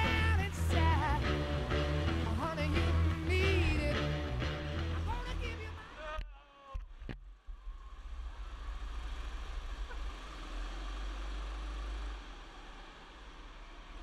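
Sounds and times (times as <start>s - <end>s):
go-kart engine rumble: 0.0s - 5.8s, 7.6s - 14.0s.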